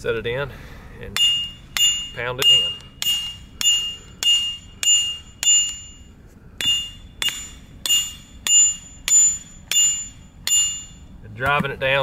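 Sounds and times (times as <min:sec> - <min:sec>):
hammer striking metal stake driver: 0:01.1 - 0:11.8.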